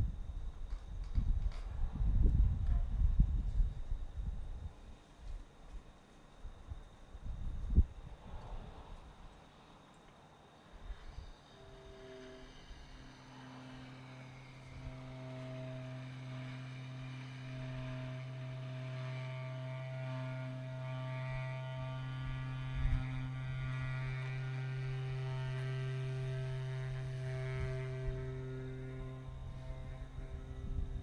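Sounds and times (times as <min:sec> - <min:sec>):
trumpet low buzzing drone: 0:00.0 - 0:04.9, 0:10.8 - 0:31.0.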